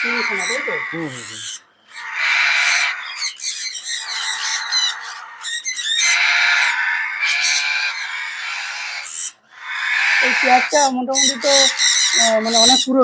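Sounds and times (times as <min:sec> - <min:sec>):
parrots screeching: 0:00.0 - 0:13.0
parrot chirps and whistles: 0:01.3 - 0:13.0.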